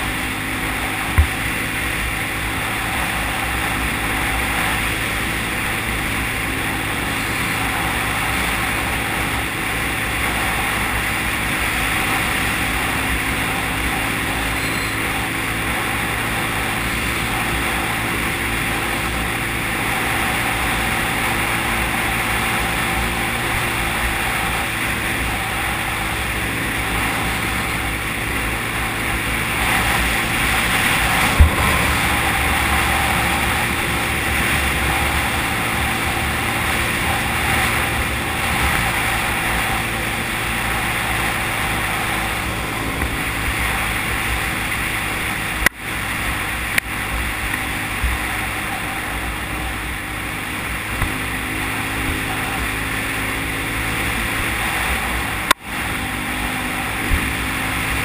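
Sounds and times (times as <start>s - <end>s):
quad bike engine running: 0.0s - 58.0s
wind noise: 0.0s - 58.0s.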